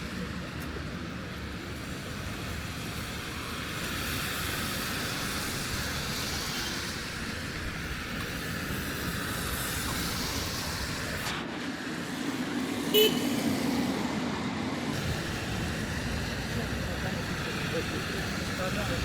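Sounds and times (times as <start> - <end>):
passing vehicle tyre and engine noise: 0.0 - 19.0.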